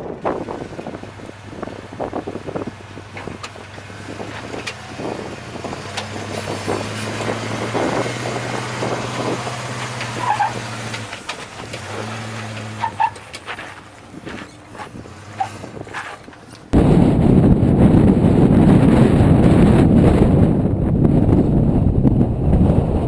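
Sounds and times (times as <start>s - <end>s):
off-road vehicle engine running: 0.0s - 23.0s.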